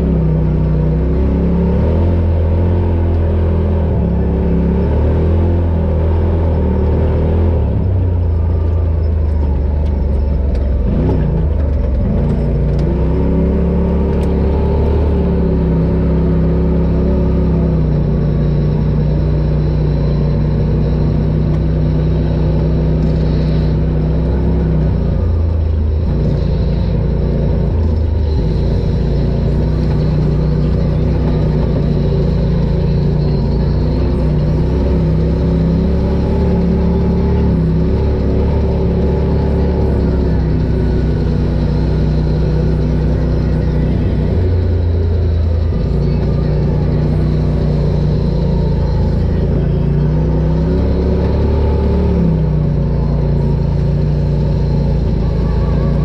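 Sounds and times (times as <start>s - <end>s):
utility vehicle engine running: 0.0s - 56.0s.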